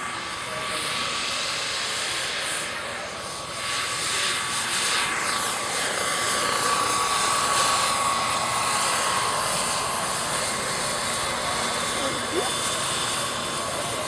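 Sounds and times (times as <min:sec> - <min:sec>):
model helicopter hovering: 0:00.0 - 0:14.0.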